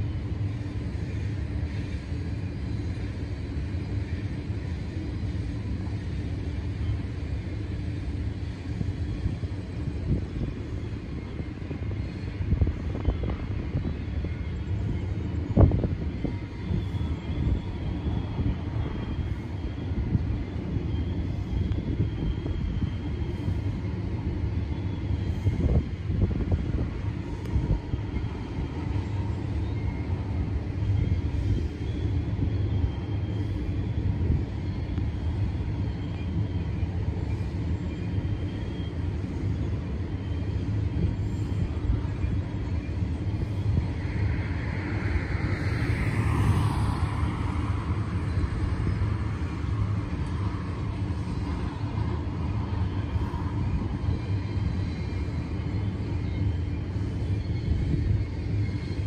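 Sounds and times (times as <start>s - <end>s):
distant freight train rumbling: 0.0s - 59.0s.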